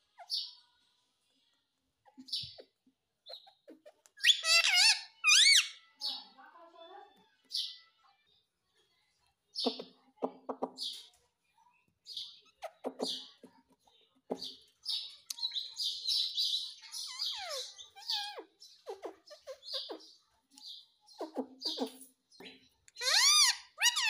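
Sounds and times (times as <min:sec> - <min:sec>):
parakeet chirping and chattering: 0:00.0 - 0:00.8, 0:02.0 - 0:06.9, 0:09.5 - 0:11.1, 0:12.0 - 0:24.0.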